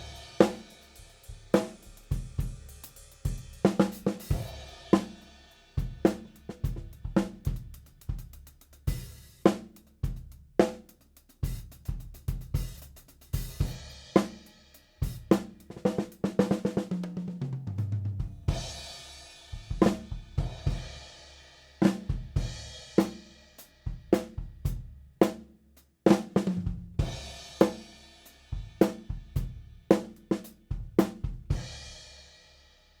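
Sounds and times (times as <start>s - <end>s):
drum kit groove: 0.0s - 21.2s, 21.8s - 32.1s.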